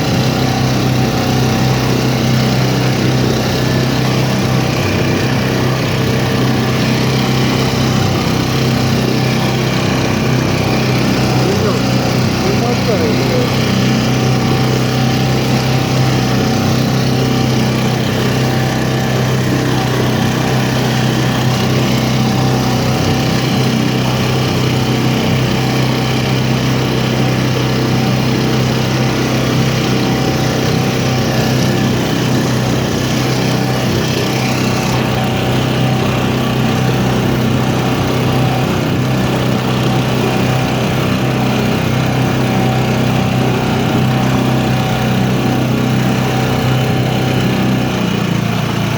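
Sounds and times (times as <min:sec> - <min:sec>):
engine humming steadily: 0:00.0 - 0:48.9.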